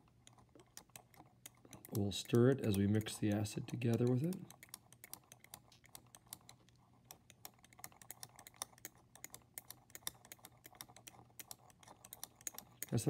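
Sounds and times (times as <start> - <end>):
glass rod ticking against test tube: 0.0 - 6.5, 7.1 - 13.0.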